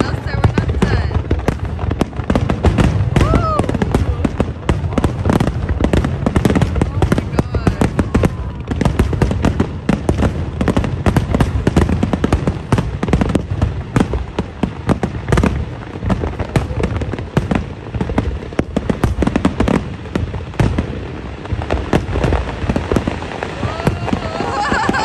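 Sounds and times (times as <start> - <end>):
fireworks booming and crackling: 0.0 - 25.0.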